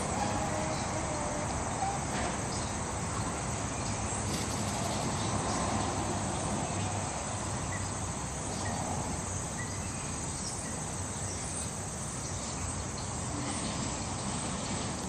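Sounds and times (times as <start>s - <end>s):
high drone of insects: 0.0s - 15.0s.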